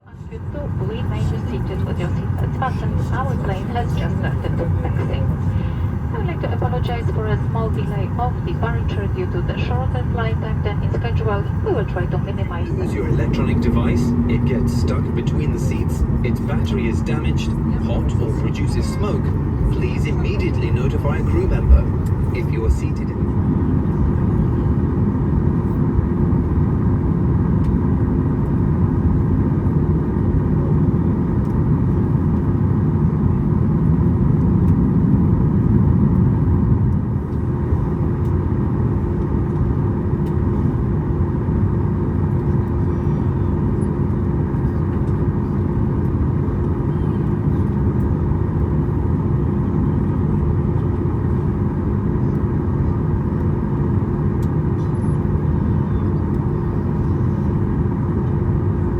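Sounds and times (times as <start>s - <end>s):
airplane engines rumbling: 0.0s - 58.9s
constant cabin hum: 0.0s - 58.9s.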